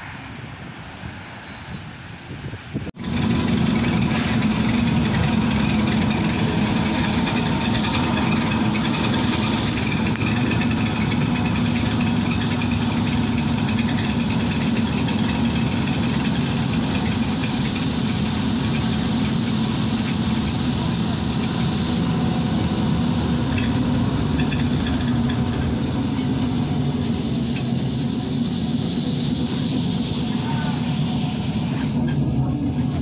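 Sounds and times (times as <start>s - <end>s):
trolleybus cabin hum: 0.0s - 33.0s.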